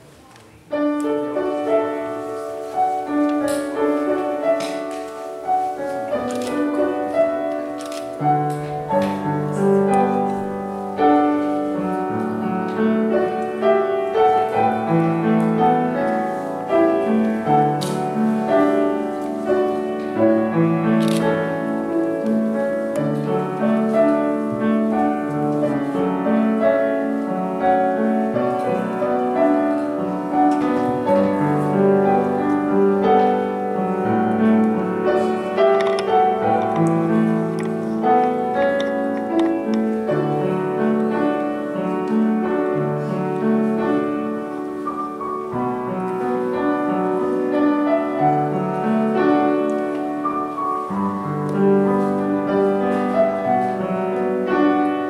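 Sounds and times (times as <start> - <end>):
solo piano piece: 0.0 - 55.0.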